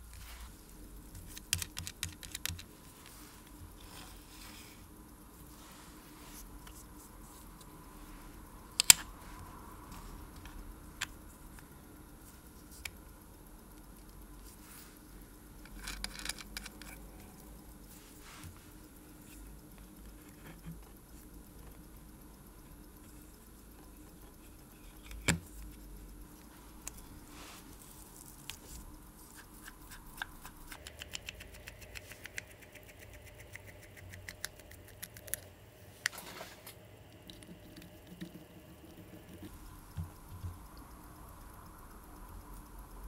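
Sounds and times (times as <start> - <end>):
rapid fine clicks: 0.0 - 43.0.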